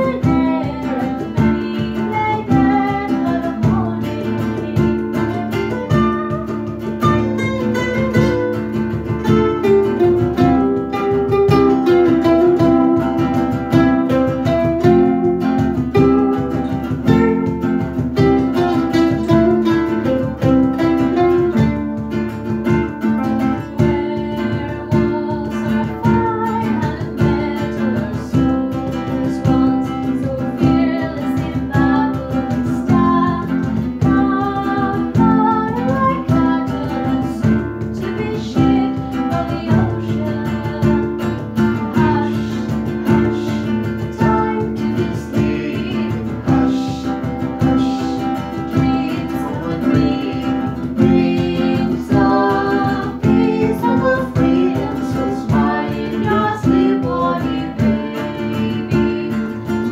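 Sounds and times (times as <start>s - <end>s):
acoustic guitar: 0.0s - 59.9s
cajon drumming: 0.0s - 59.9s
mandolin: 0.0s - 59.9s
woman singing: 0.0s - 59.9s.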